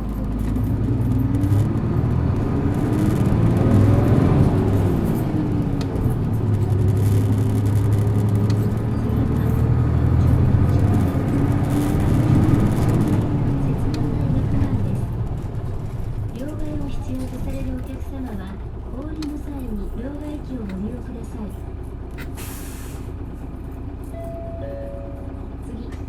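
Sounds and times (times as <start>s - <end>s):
bus diesel engine accelerating: 0.0s - 26.0s.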